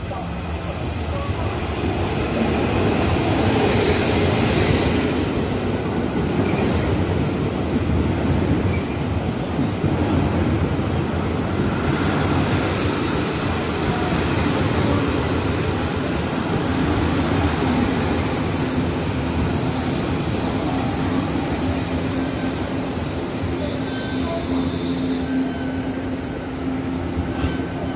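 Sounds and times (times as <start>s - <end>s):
train wheels rumbling on rail: 0.0s - 27.9s.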